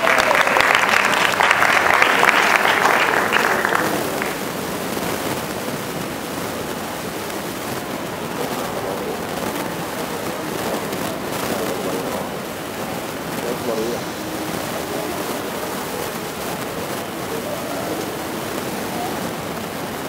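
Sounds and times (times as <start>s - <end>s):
audience applauding: 0.0s - 20.0s
steady hall hiss: 0.0s - 20.0s.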